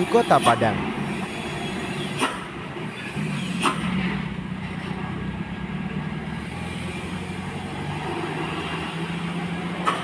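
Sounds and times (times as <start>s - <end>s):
passing traffic: 0.0s - 10.0s
truck diesel engine running: 0.0s - 10.0s.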